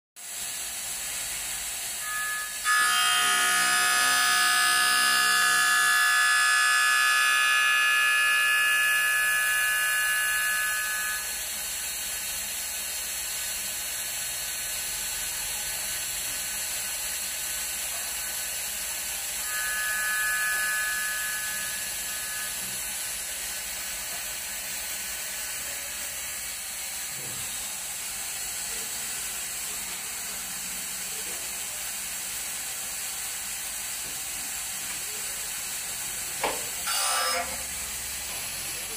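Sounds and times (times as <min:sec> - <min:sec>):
grinding wheel high whine: 0:01.1 - 0:13.8, 0:14.8 - 0:38.9.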